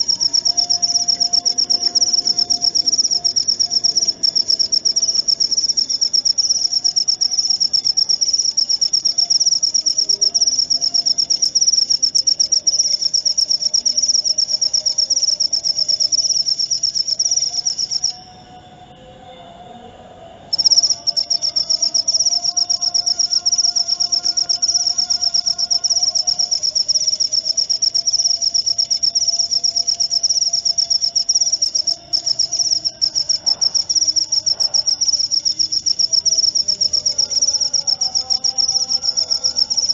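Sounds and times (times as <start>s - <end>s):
cricket chirping trill: 0.0s - 19.1s, 20.4s - 39.9s.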